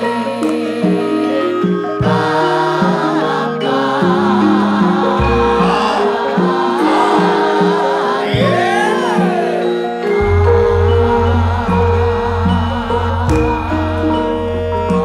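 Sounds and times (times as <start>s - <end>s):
voices singing melismatic line: 0.0s - 15.0s
metallophones ringing: 1.0s - 15.0s.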